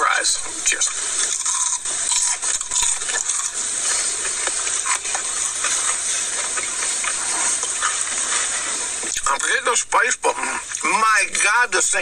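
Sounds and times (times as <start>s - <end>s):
steady hiss: 0.0s - 12.0s
people chewing: 0.2s - 11.5s.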